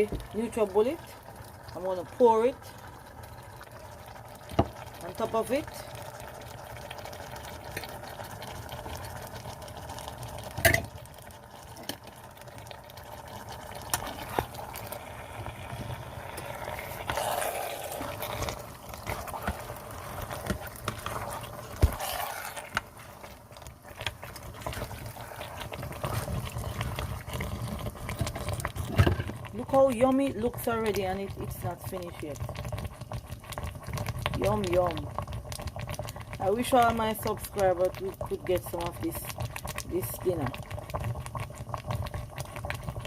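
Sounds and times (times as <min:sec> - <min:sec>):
stew bubbling in a pot: 0:00.0 - 0:43.0.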